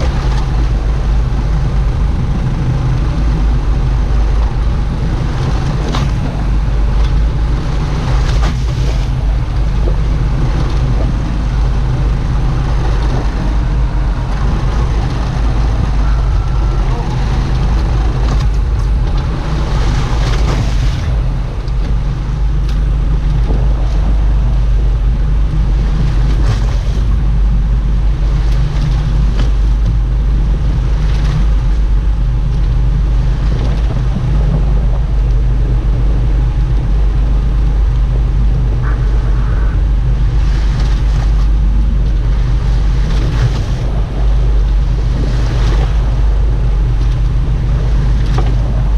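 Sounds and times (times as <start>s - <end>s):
boat engine running: 0.0s - 48.9s
rushing water: 0.0s - 48.9s
wind: 0.0s - 48.9s.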